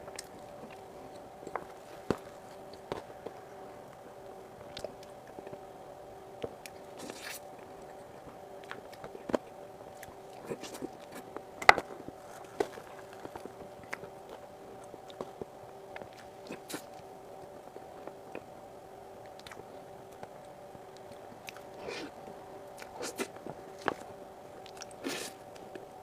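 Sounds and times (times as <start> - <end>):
wet chewing noises: 0.0 - 5.8, 6.4 - 18.6, 19.2 - 26.0
faint hum: 0.0 - 26.0.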